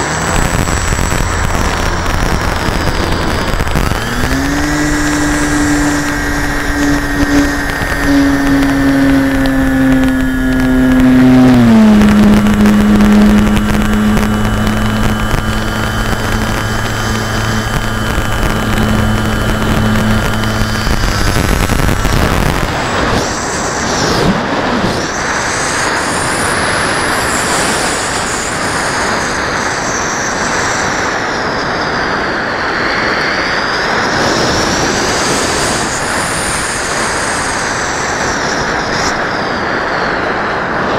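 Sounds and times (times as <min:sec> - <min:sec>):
model airplane motor humming: 0:00.0 - 0:31.6, 0:33.2 - 0:39.8.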